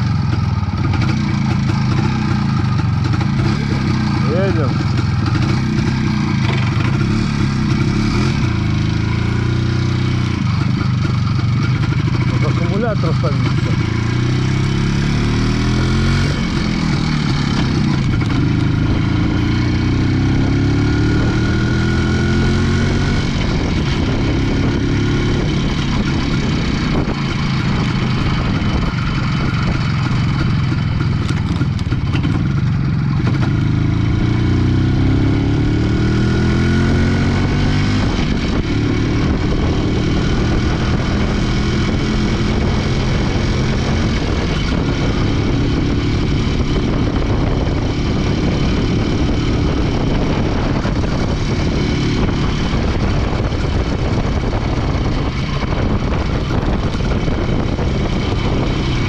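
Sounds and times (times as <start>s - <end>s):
motorcycle two-stroke engine running: 0.0s - 59.0s.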